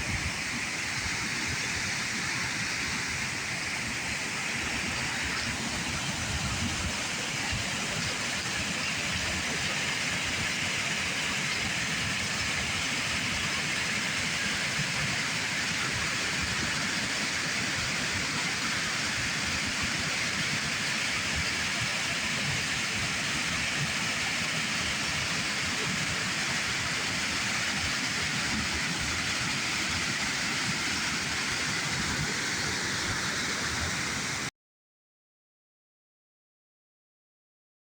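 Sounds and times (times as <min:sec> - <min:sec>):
waterfall rushing: 0:00.0 - 0:34.5.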